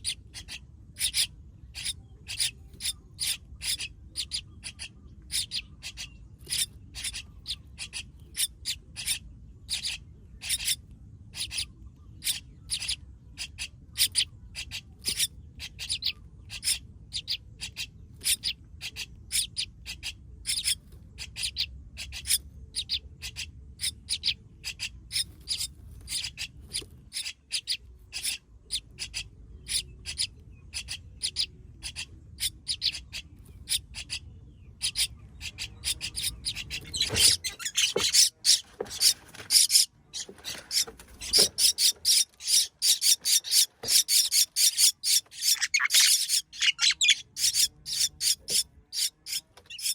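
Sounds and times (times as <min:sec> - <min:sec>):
nestling bird chirping: 0:00.0 - 0:49.9.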